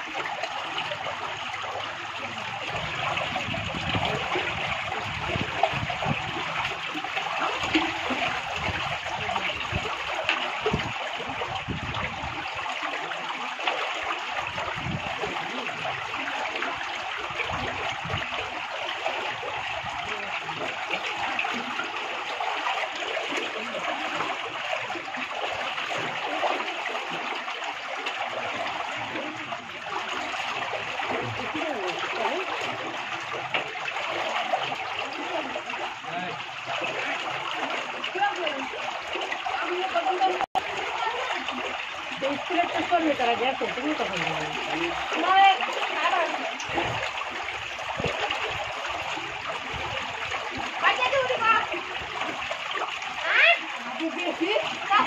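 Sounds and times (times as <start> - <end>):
low thumps and splashes: 0.0 - 55.0
water rushing through channel: 0.0 - 55.0.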